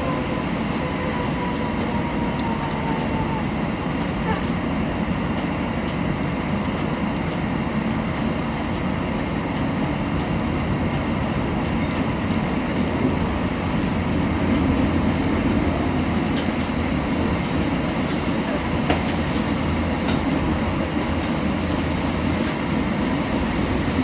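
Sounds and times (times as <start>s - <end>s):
streetcar rumbling on rails: 0.0s - 24.0s.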